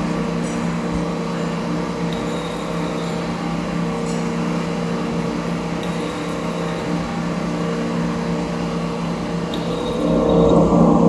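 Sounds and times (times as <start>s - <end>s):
lathe humming with a whine: 0.0s - 11.0s.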